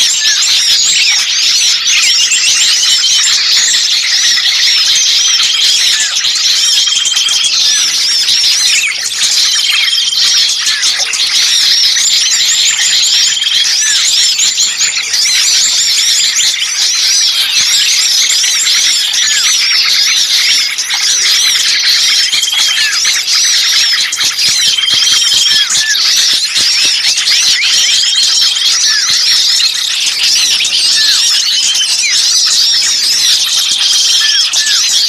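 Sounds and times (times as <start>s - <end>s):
bird trills: 0.0s - 35.0s
songbirds chirping agitatedly: 0.0s - 35.0s.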